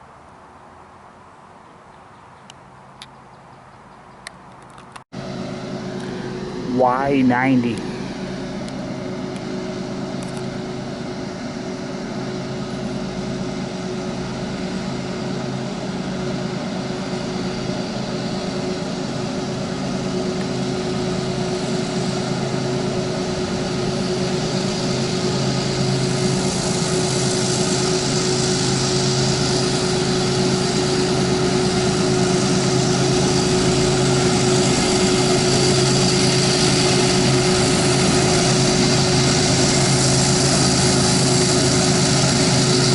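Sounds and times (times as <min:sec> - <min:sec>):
diesel locomotive engine drone: 0:00.0 - 0:42.9
locomotive whine: 0:02.4 - 0:42.9.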